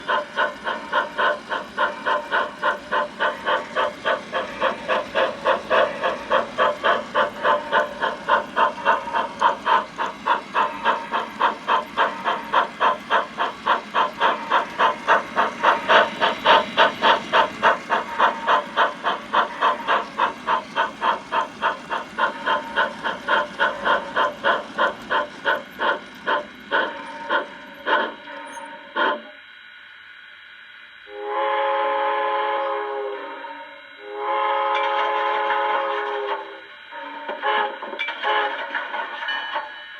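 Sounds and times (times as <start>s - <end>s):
model steam locomotive chuffing: 0.0s - 39.9s
steam hiss: 0.0s - 39.9s.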